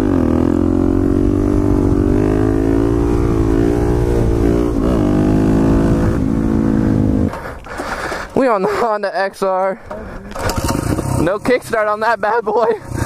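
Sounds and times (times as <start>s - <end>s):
dirt bike engine running: 0.0s - 7.5s, 10.0s - 13.0s.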